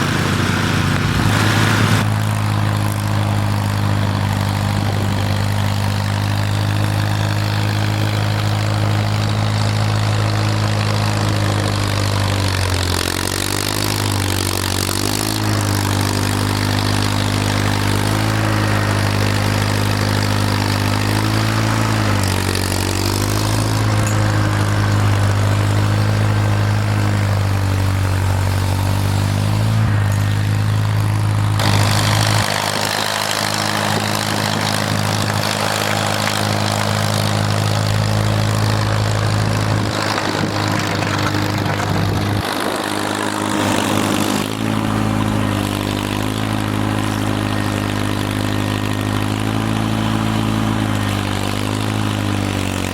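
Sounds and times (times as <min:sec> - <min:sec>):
snowblower engine running: 0:00.0 - 0:52.9.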